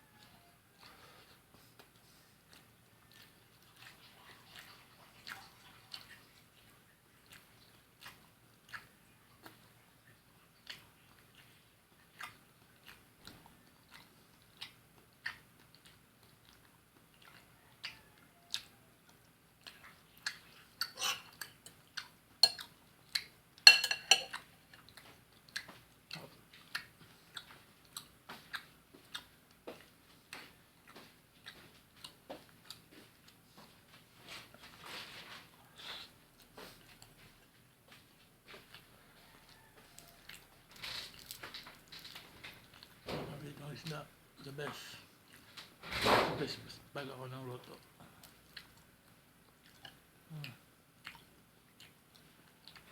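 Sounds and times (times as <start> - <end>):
chewing with wet mouth clicks: 0.0 - 34.8, 35.6 - 43.1, 44.6 - 45.8, 47.6 - 52.9.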